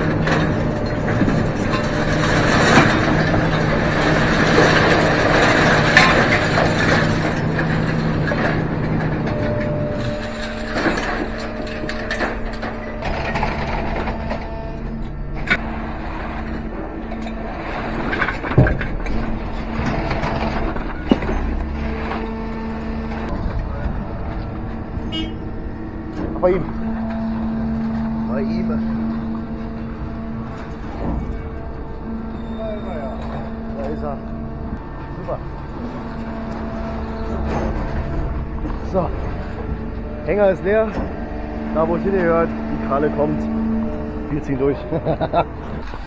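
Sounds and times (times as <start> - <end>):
engine running: 0.0 - 46.0
scrap iron clanking: 0.0 - 46.0.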